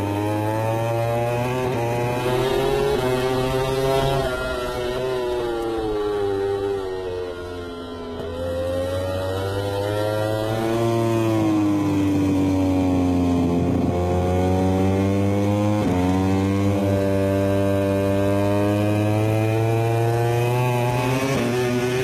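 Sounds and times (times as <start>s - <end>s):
racing motorcycle engine: 0.0s - 22.0s.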